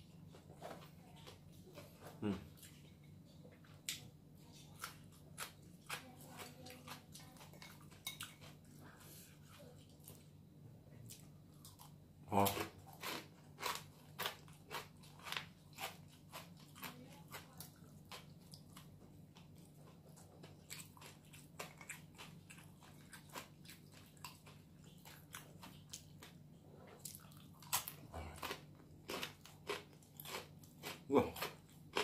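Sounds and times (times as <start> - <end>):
person chewing crunchy food: 0.2 - 10.3, 11.0 - 32.0.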